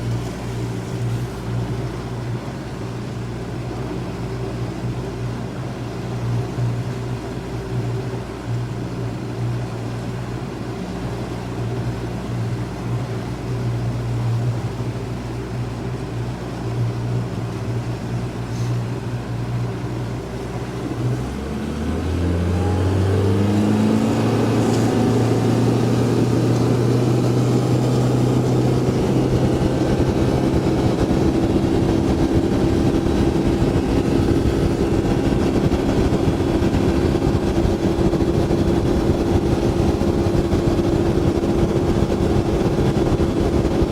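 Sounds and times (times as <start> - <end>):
boat motor running: 0.0 - 43.9.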